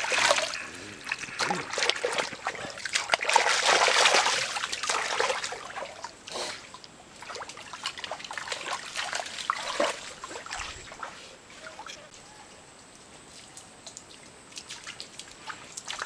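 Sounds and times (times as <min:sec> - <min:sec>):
creek water splashing: 0:00.0 - 0:12.1, 0:13.4 - 0:16.0.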